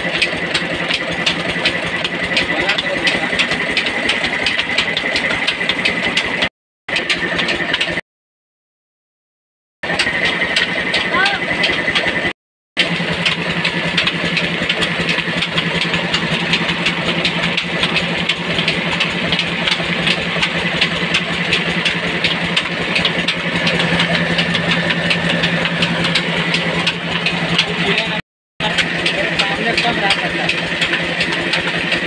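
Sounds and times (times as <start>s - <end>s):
flour mill humming and clattering: 0.0s - 8.0s, 9.8s - 32.0s.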